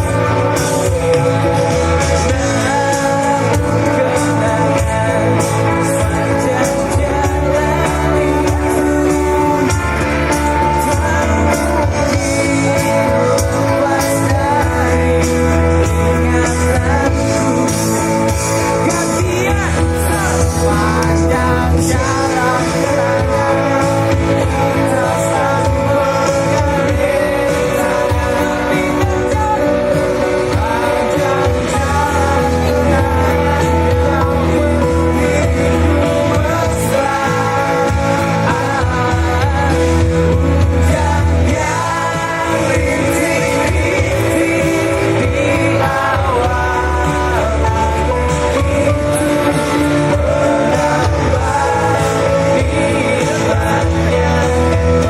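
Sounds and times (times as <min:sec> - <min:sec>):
pop-rock band with singer: 0:00.0 - 0:55.0.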